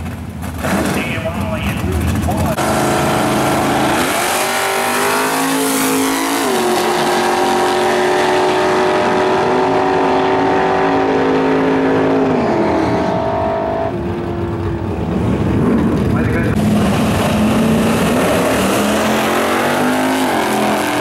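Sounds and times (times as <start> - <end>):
racing car engines accelerating: 0.6 - 21.0.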